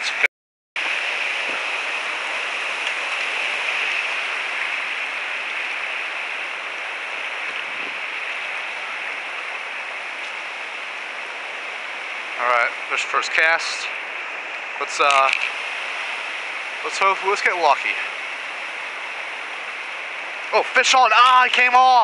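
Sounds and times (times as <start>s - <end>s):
flowing river water: 0.0s - 22.0s.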